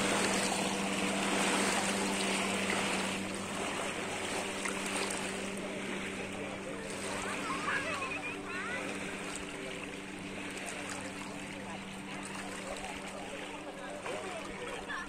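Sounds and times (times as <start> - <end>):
boat engine running: 0.0 - 15.0
water rushing: 0.0 - 15.0
wind: 0.0 - 15.0.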